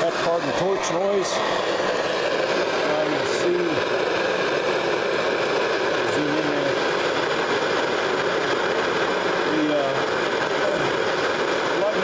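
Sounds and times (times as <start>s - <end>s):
gas torch roaring: 0.0s - 12.0s.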